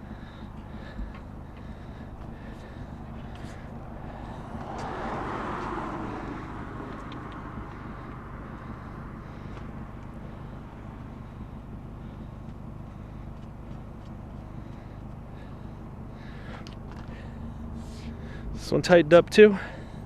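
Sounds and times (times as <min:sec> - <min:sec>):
low vehicle rumble: 0:00.0 - 0:20.0
vehicle passing with road noise: 0:00.0 - 0:20.0.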